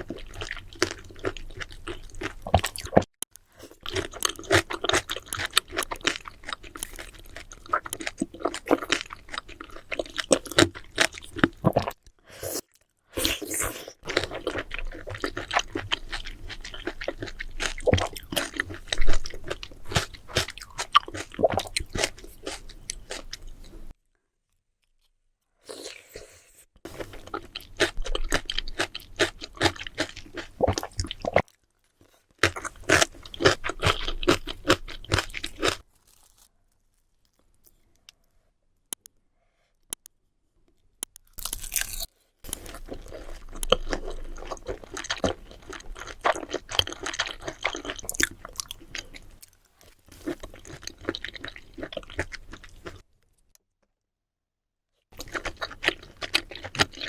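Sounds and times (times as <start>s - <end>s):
seafood chewing and crunching: 0.0s - 23.9s, 26.9s - 36.5s, 41.0s - 53.1s, 55.2s - 57.0s.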